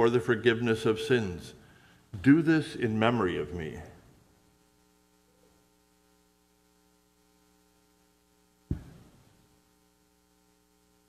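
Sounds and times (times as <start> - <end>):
faint electrical mains hum: 0.0 - 11.0.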